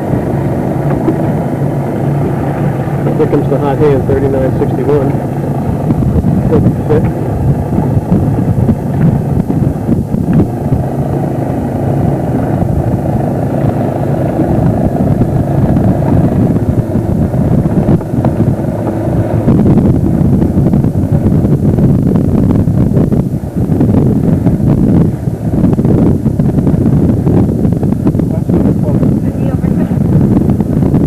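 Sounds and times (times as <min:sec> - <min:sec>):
motor running steadily: 0:00.0 - 0:31.0
wind buffeting microphone: 0:00.0 - 0:31.0.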